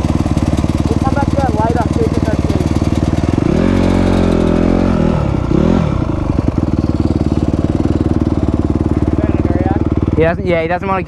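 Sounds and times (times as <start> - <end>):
dirt bike engine revving and idling: 0.0 - 11.0.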